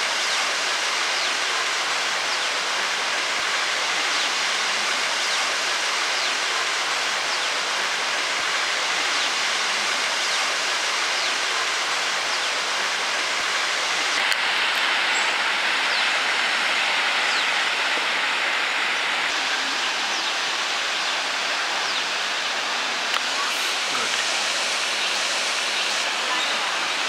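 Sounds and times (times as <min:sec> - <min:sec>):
waterfall rushing and splashing: 0:00.0 - 0:27.0.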